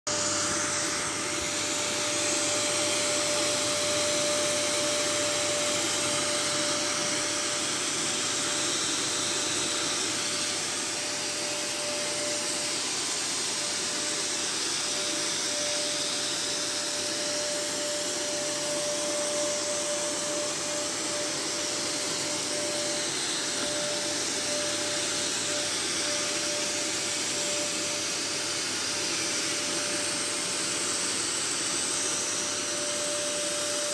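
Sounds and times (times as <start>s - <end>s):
steady whine: 0.1s - 33.3s
fogger blower hissing: 0.1s - 33.9s.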